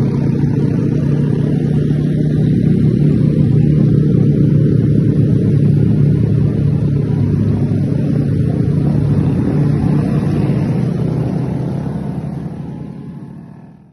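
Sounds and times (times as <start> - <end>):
motorcycle engine droning: 0.0 - 13.9.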